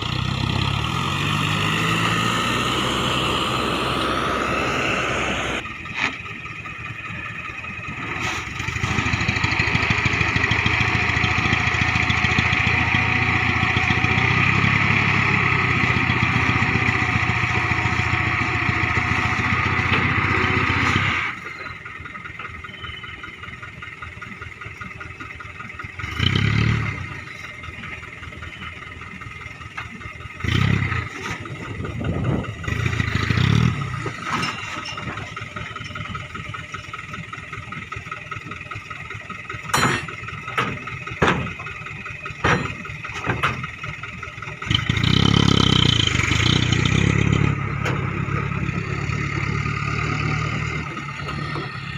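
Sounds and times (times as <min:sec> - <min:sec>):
diesel truck engine revving: 0:00.0 - 0:51.9.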